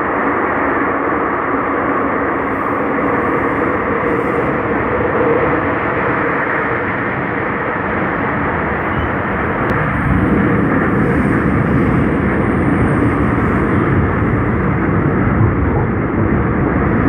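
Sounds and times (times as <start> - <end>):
subway train rumbling in tunnel: 0.0 - 17.0.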